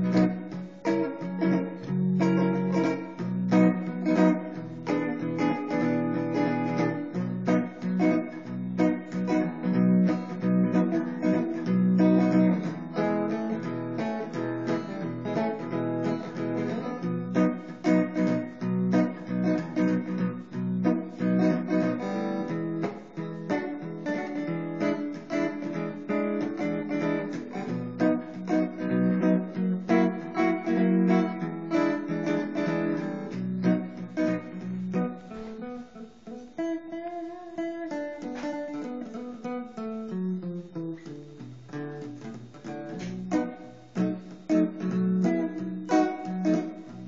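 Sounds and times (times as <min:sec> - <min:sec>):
electric guitar playing: 0:00.0 - 0:47.0.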